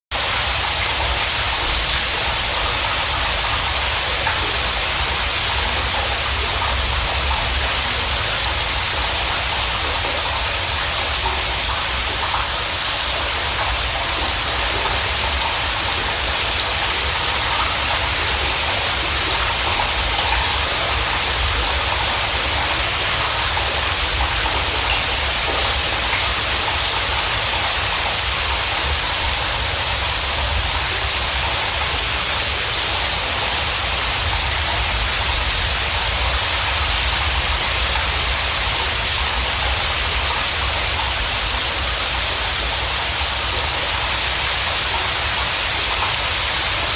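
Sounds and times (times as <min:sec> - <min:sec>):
rain falling: 0:00.1 - 0:46.9.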